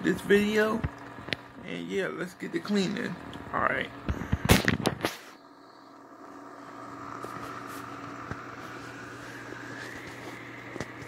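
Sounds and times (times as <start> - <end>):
mechanical hum with rising whine: 0.0 - 11.0.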